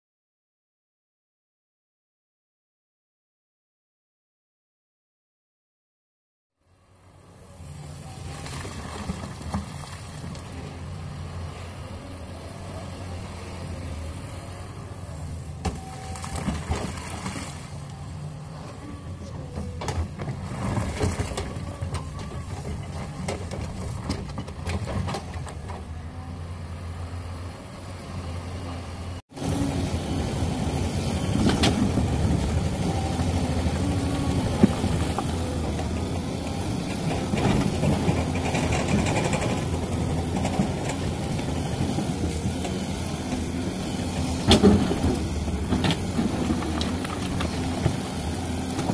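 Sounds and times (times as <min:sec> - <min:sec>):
excavator diesel engine running: 0:06.6 - 0:48.9.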